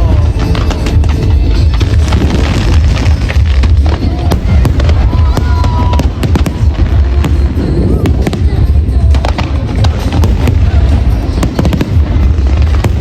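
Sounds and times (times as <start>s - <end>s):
fireworks booming and crackling: 0.0s - 13.0s
music: 0.0s - 13.0s.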